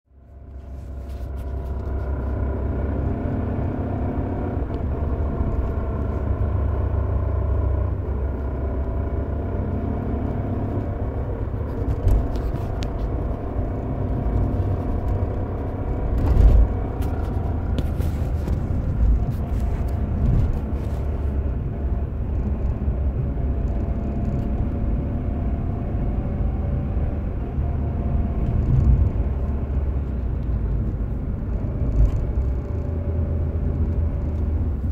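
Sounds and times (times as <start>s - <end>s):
vehicle rumble: 0.1s - 34.9s.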